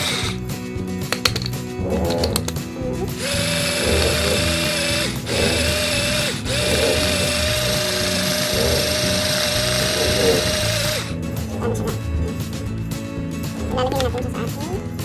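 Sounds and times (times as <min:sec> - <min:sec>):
electric chopper motor grinding: 0:00.0 - 0:00.7, 0:01.7 - 0:14.2.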